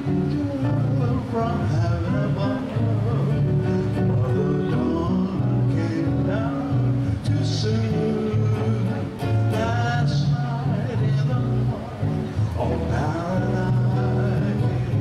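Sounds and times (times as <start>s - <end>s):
electric bass: 0.0s - 15.0s
guitar: 0.0s - 15.0s.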